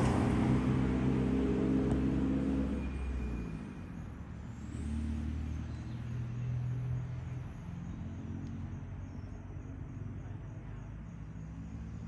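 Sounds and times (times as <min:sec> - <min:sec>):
vehicle engines running slowly: 0:00.0 - 0:12.0.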